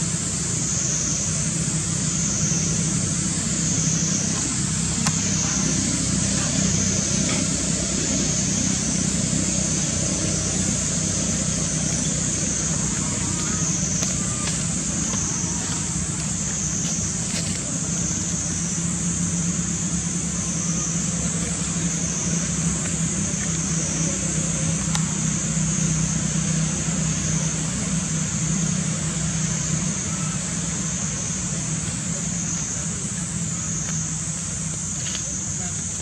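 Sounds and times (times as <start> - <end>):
high wavering drone: 0.0 - 36.0
motor vehicle low hum: 0.0 - 36.0.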